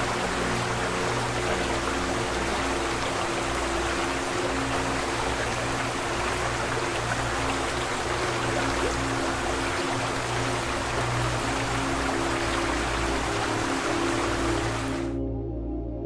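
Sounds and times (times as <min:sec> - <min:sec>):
running water: 0:00.0 - 0:15.2
calm music with low chords: 0:00.0 - 0:16.0.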